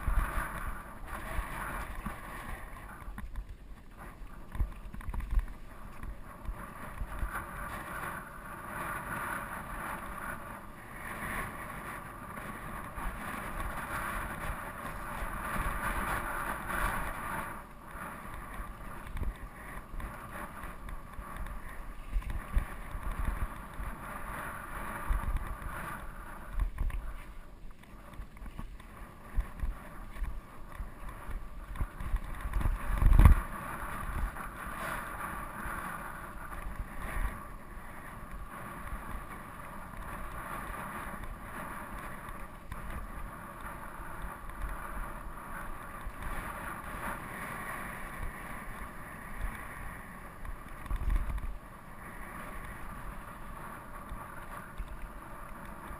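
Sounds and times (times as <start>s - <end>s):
bike tyres on dirt and gravel: 0.0s - 55.9s
wind over microphone: 0.0s - 55.9s.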